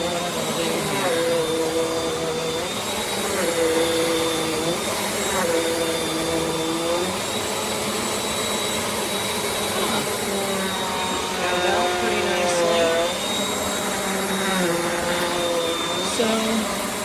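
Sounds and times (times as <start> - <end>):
vacuum cleaner running on carpet: 0.0 - 17.0.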